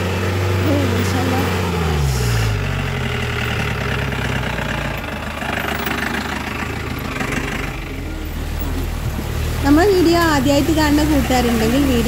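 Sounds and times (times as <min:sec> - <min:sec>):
engine running in low gear: 0:00.0 - 0:12.0.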